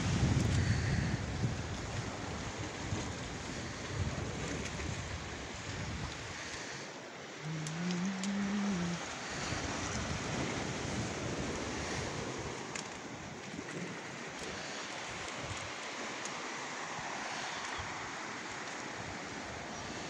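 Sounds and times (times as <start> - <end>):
waves breaking on rocky shore: 0.0 - 20.0.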